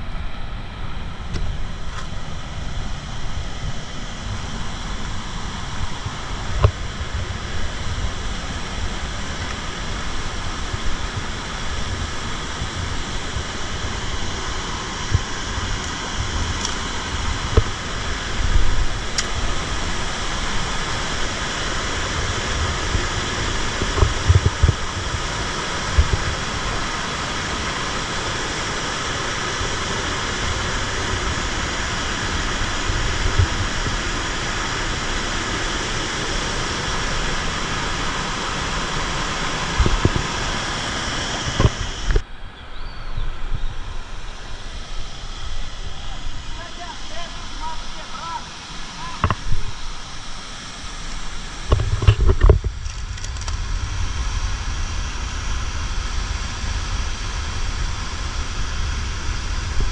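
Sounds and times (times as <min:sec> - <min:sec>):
waterfall and rapids rushing: 0:00.0 - 0:59.9.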